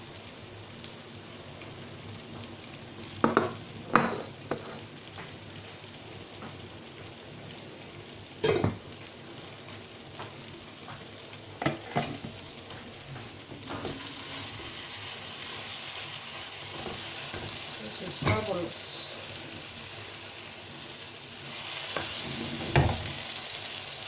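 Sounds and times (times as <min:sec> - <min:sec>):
stew sizzling in hot oil: 0:00.0 - 0:24.0.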